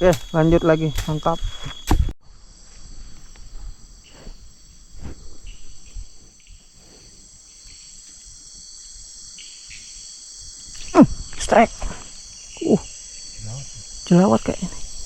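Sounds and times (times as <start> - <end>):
chorus of forest insects: 0.0 - 15.0.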